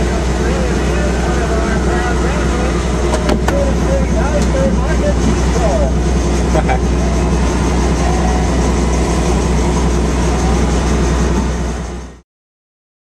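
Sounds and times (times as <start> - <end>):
helicopter engine and rotor drone: 0.0 - 12.2.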